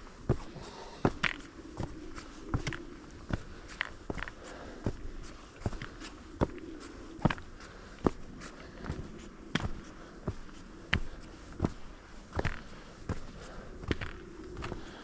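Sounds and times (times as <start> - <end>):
faint steady background: 0.0 - 15.0
footsteps on a trail: 0.0 - 15.0.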